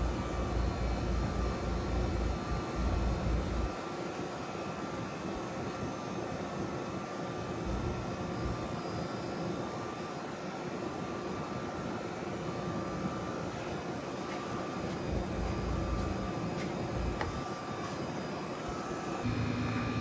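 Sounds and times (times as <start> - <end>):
heat pump hum and whoosh: 0.0 - 8.8, 9.5 - 20.0.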